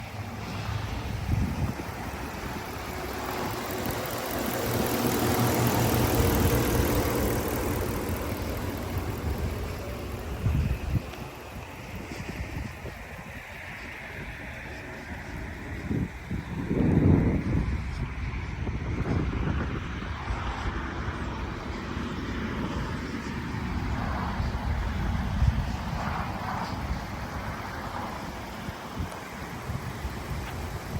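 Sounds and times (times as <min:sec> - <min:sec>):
vehicle engine running: 0:00.0 - 0:18.1, 0:20.2 - 0:30.9
wind noise on microphone: 0:00.0 - 0:30.9.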